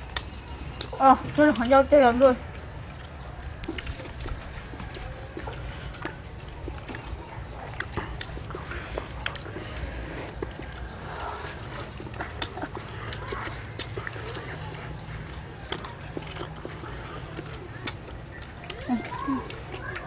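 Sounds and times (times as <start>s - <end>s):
people chewing food: 0.0s - 20.0s.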